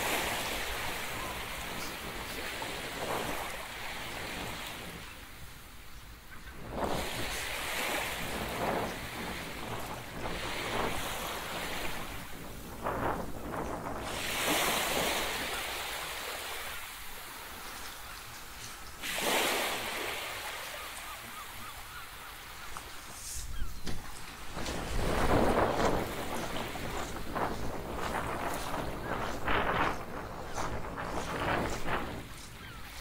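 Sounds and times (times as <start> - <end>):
ocean waves breaking: 0.0 - 33.0
wind on microphone: 0.0 - 33.0.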